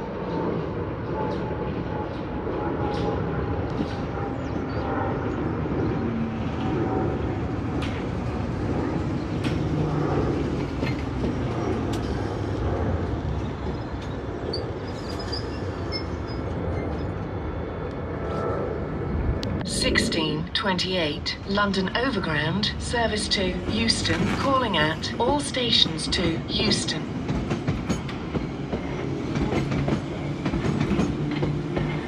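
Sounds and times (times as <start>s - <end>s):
train wheels rumbling on rail: 0.0s - 20.6s, 21.4s - 32.0s.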